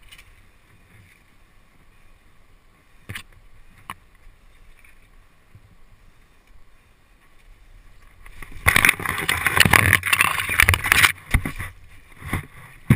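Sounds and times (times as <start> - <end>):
leaves and branches rustling: 0.0 - 12.9.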